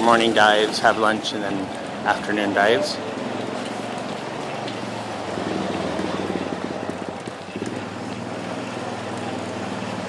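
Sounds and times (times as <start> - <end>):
small vehicle engine running: 0.0 - 10.0.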